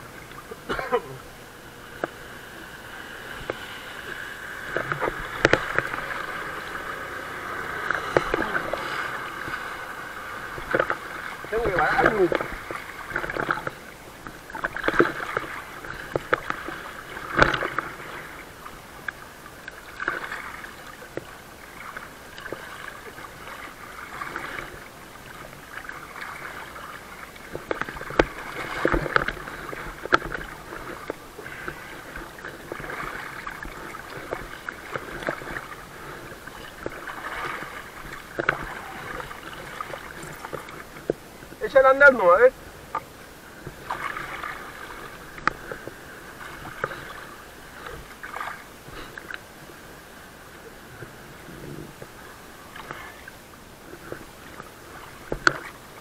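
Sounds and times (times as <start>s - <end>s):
water lapping against wakeboard: 0.0s - 56.0s
water splashes: 0.0s - 56.0s.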